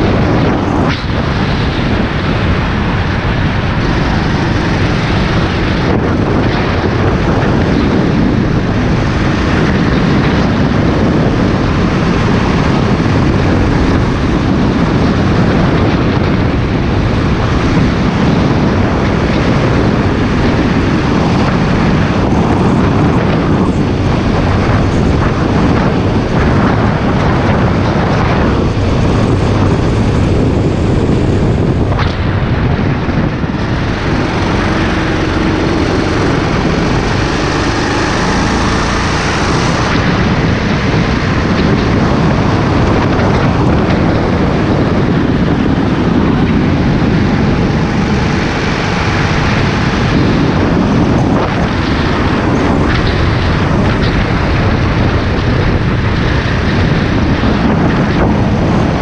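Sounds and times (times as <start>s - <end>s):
go-kart engine running hard: 0.0s - 59.0s
wind rushing over microphone: 0.0s - 59.0s.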